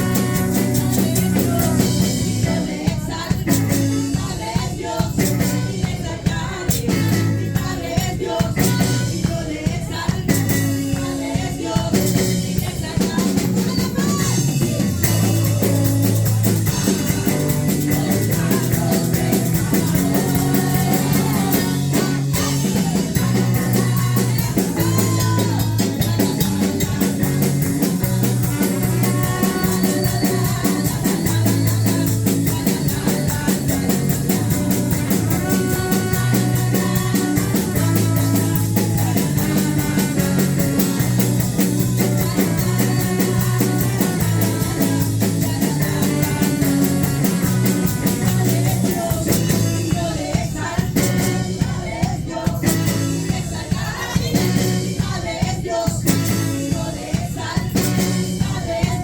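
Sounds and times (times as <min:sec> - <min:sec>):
live band music: 0:00.0 - 0:59.0.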